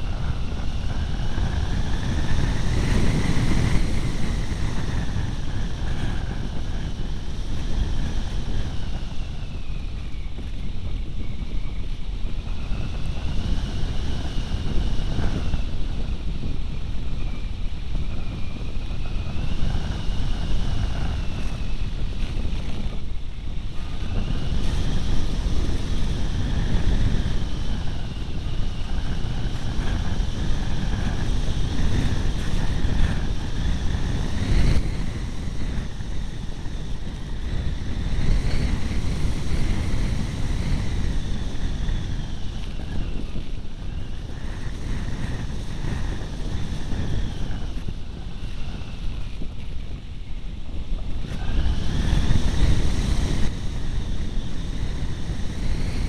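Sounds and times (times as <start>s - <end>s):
faint whine varying in pitch: 0.0s - 56.0s
wind buffeting microphone: 0.0s - 56.0s.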